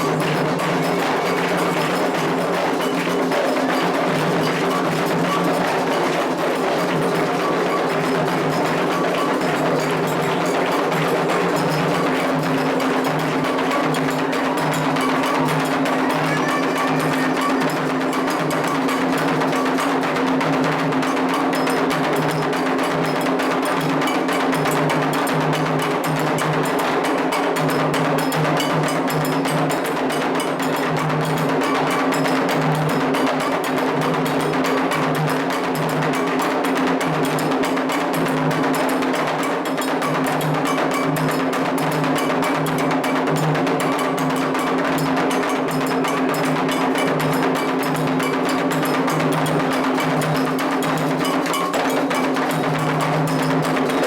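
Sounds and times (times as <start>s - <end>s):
hand drums playing fast rhythm: 0.0s - 54.0s.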